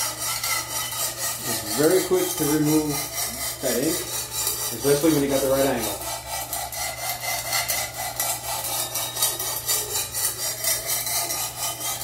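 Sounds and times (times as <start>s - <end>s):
sharpening plate scraping steel: 0.0s - 12.0s.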